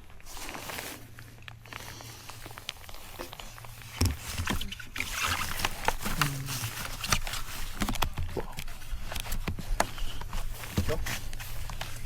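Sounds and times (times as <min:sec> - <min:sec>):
bike rattling over trail: 0:00.0 - 0:12.0.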